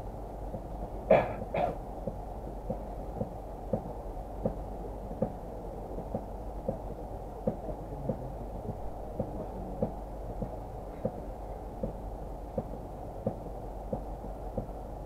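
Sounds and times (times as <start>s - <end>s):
train rumble inside carriage: 0.0s - 15.0s
soft regular knocks of wheels: 0.5s - 15.0s.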